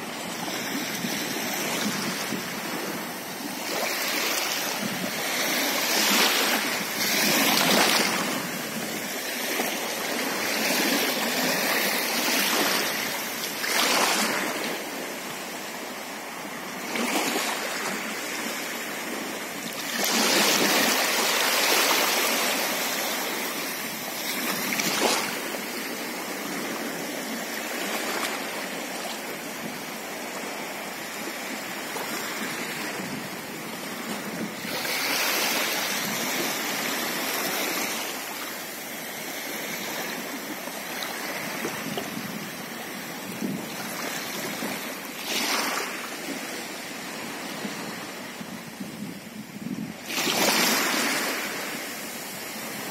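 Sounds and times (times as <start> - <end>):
small waves lapping: 0.1 - 48.5, 49.6 - 52.9.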